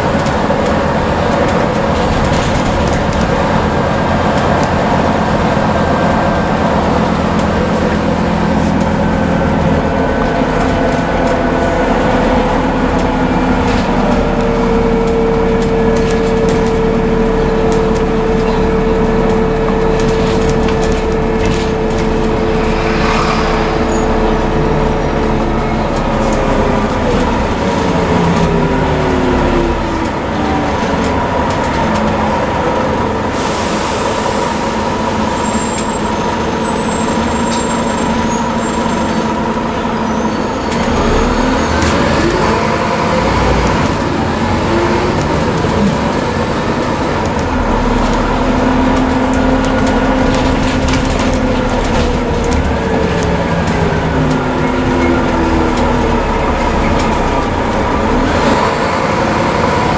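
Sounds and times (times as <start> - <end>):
bus engine whine: 0.0 - 59.9.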